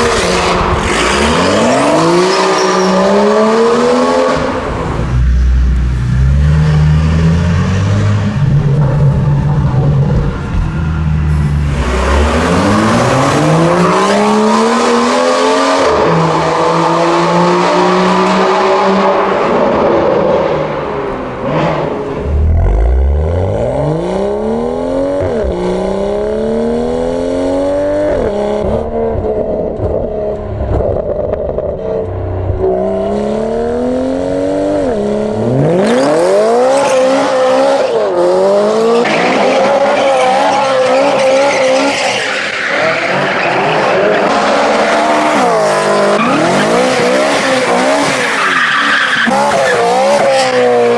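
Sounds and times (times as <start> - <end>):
car engine accelerating hard: 0.0 - 19.8, 20.6 - 41.8.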